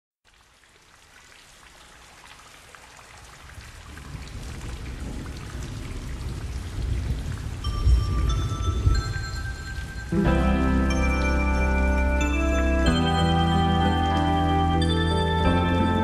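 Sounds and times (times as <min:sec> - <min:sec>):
rain falling: 0:00.2 - 0:16.0.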